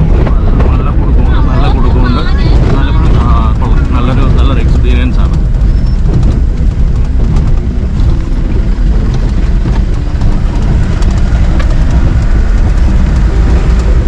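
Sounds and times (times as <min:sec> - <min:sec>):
off-road vehicle engine rumble: 0:00.0 - 0:14.0.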